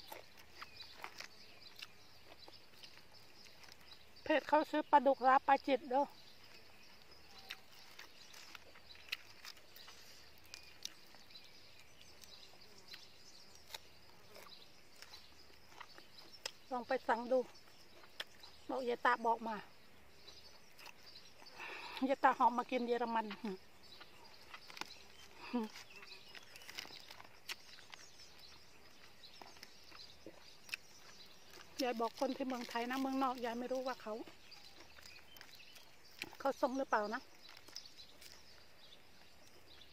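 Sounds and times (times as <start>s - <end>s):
fingers picking at food: 0.0s - 4.5s, 6.9s - 18.6s, 20.7s - 38.6s
chewing: 0.0s - 4.8s, 6.2s - 18.7s, 20.3s - 39.9s
distant birds chirping: 0.0s - 39.9s.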